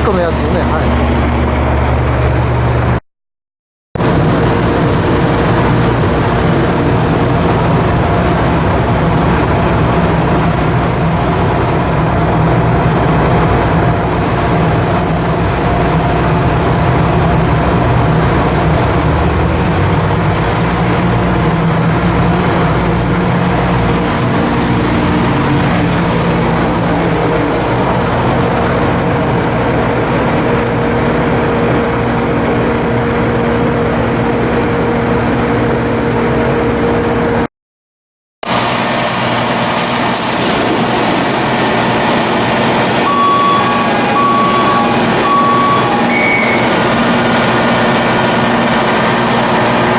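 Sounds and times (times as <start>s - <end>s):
ship diesel engine droning: 0.0s - 3.0s, 4.0s - 37.5s, 38.4s - 49.9s.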